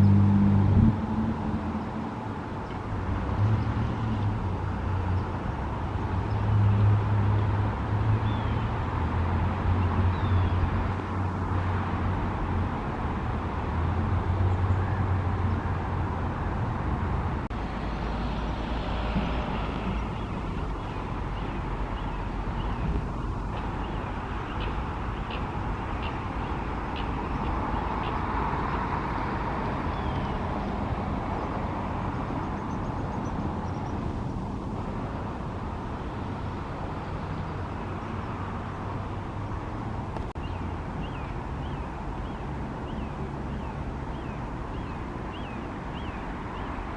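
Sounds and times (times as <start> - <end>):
low vehicle rumble: 0.0 - 45.7
distant road traffic: 0.0 - 46.9.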